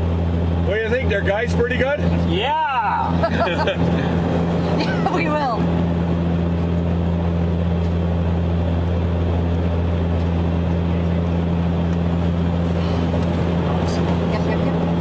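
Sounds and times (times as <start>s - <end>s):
aircraft cabin drone: 0.0s - 15.0s.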